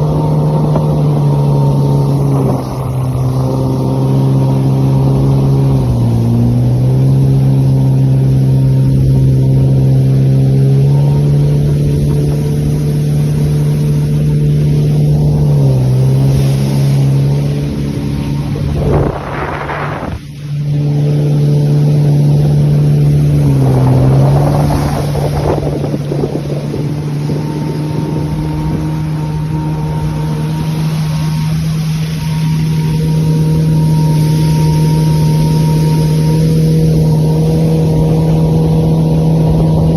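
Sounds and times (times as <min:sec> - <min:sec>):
jet ski engine running: 0:00.0 - 0:39.9
rush of water: 0:00.0 - 0:39.9.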